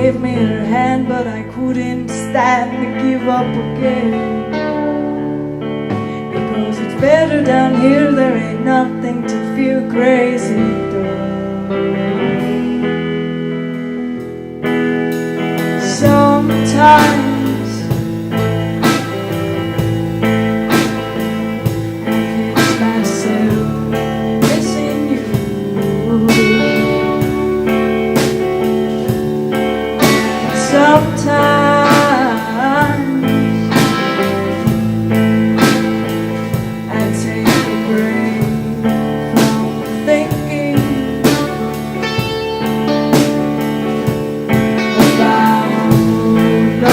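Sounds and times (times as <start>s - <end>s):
bending lead guitar notes: 0.0s - 46.9s
folk-rock band playing: 0.0s - 46.9s.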